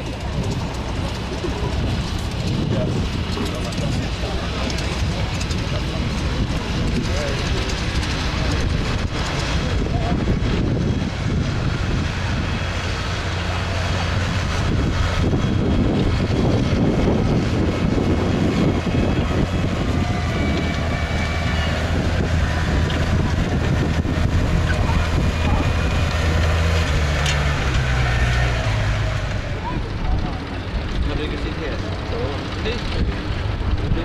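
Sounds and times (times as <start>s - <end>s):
tractor engine running: 0.0s - 34.0s
wind buffeting microphone: 0.0s - 34.0s.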